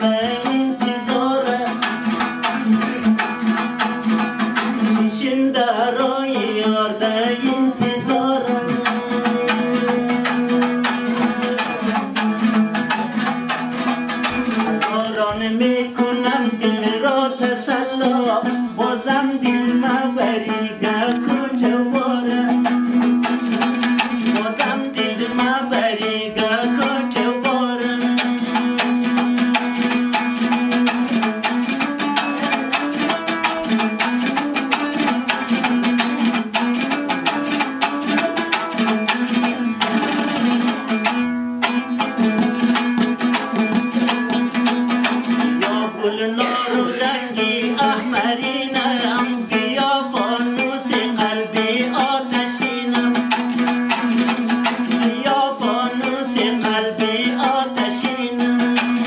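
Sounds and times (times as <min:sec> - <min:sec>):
lute strummed fast: 0:00.0 - 0:59.0.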